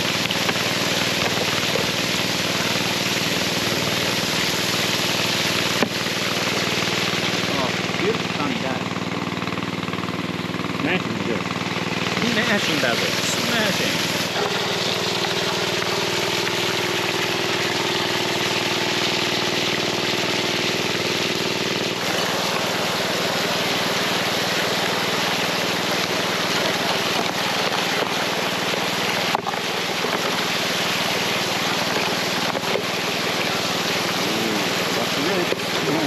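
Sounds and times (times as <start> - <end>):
water pump engine humming: 0.0 - 36.0
water rushing through sluice: 0.0 - 36.0.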